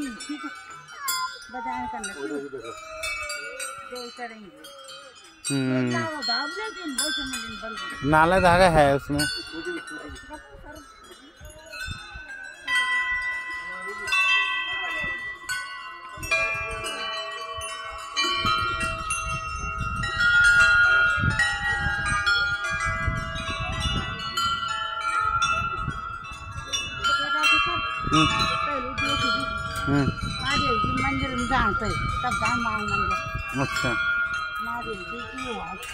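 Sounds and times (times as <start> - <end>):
metal bells ringing: 0.0 - 35.9.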